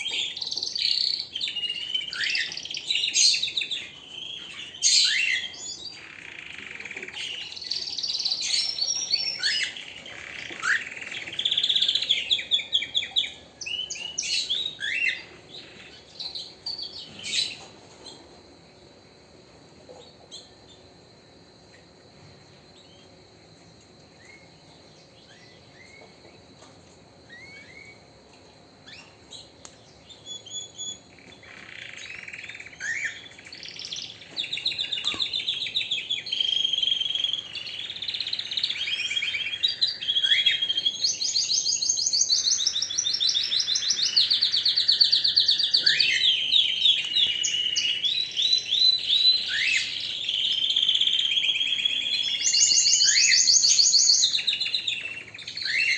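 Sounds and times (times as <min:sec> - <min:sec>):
canary singing: 0:00.0 - 0:18.3, 0:27.2 - 0:28.1, 0:28.8 - 0:55.9.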